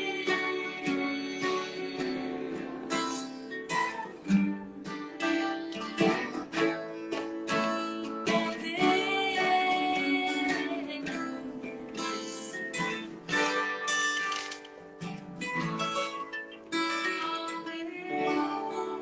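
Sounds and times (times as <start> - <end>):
person singing: 0.0 - 13.8, 16.8 - 19.0
acoustic guitar strumming: 0.0 - 19.0.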